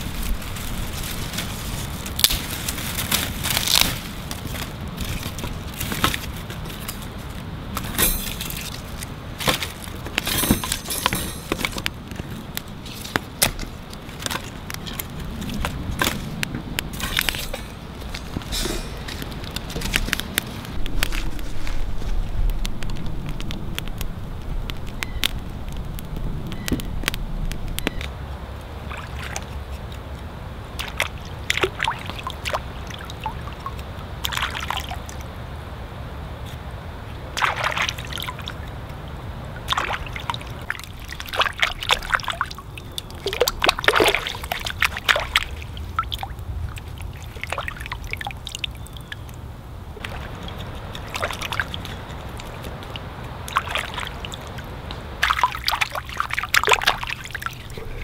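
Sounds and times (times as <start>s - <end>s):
water sloshing and trickling: 0.0s - 35.6s, 36.4s - 58.0s
low background noise: 0.0s - 58.0s.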